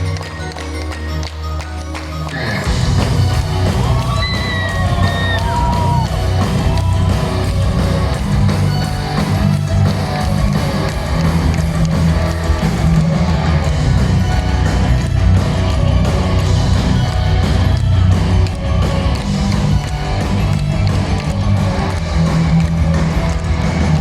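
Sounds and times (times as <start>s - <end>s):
metal band playing loud: 2.3s - 24.0s.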